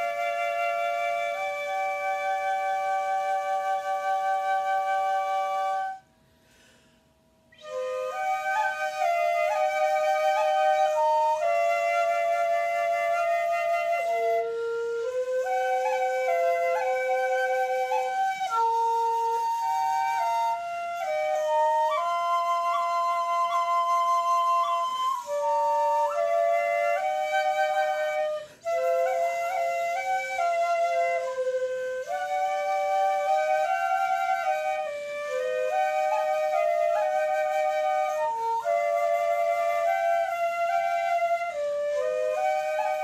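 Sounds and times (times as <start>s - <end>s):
bamboo flutes playing in harmony: 0.0s - 43.0s.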